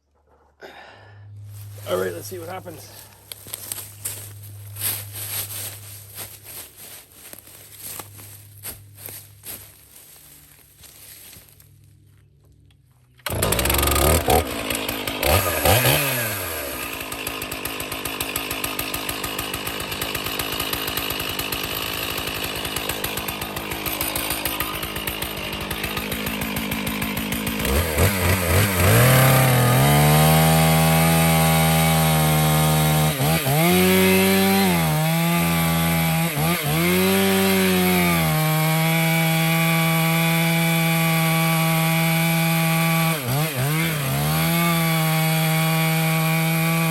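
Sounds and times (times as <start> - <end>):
chainsaw running and revving: 1.5 - 11.4, 13.2 - 46.9.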